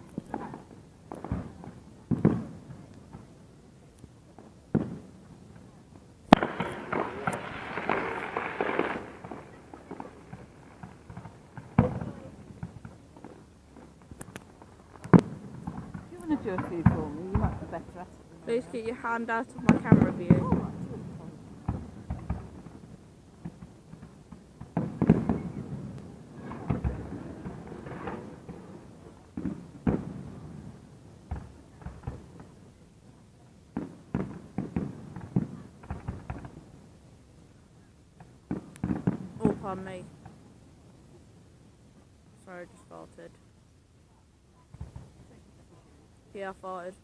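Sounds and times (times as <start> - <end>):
firework crackling pops: 0.0 - 43.5, 44.6 - 47.0.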